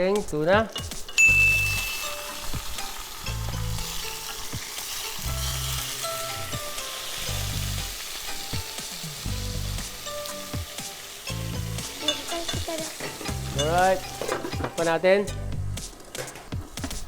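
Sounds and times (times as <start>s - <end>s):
fish frying in hot oil: 0.8s - 15.0s.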